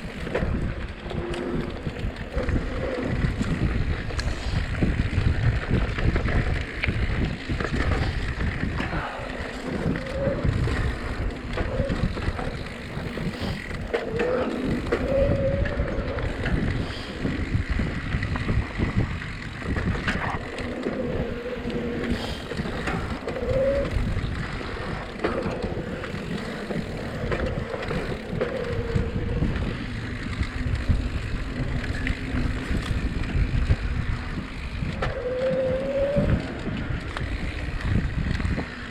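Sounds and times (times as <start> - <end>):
bike rumbling and rattling: 0.0 - 38.9
wind buffeting microphone: 0.0 - 38.9.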